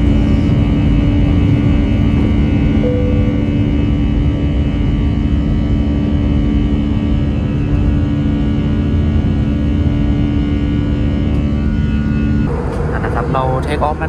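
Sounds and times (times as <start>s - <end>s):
jet engine cabin rumble: 0.0s - 14.0s
low hums: 0.0s - 14.0s.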